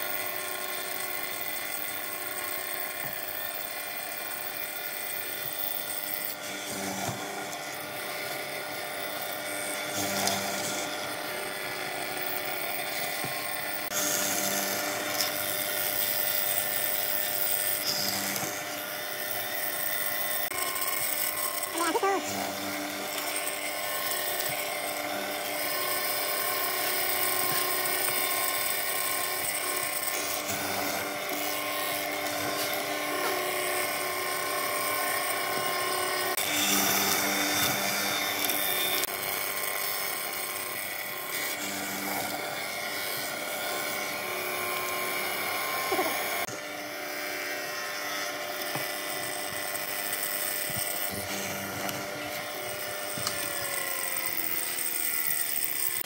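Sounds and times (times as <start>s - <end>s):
band saw whining: 0.0s - 56.0s.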